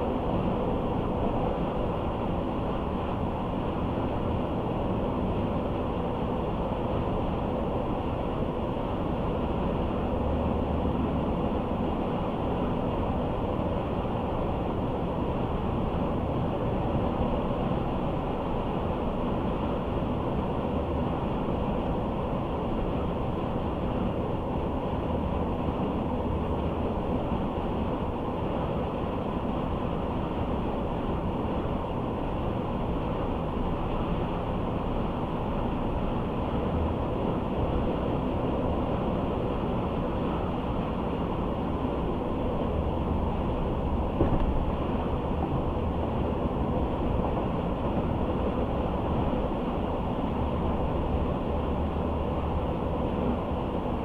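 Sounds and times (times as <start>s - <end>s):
car engine drone: 0.0s - 54.0s.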